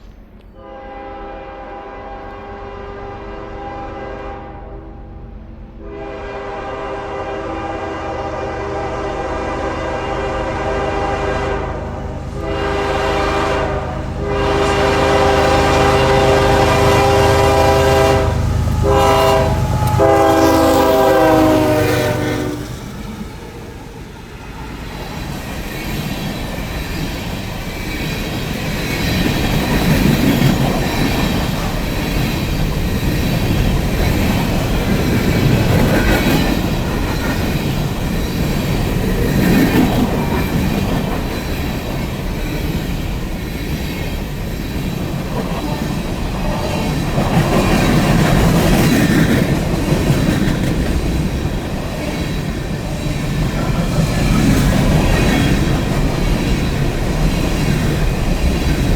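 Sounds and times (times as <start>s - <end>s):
train wheels rumbling on rail: 0.0s - 58.9s
wheels clacking over rail joints: 11.0s - 58.9s.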